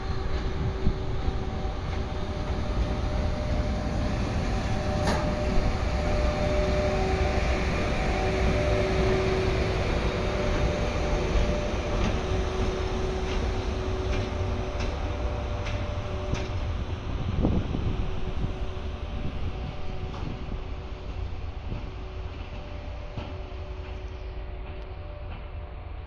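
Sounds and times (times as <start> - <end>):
electric locomotive humming: 0.0 - 26.0.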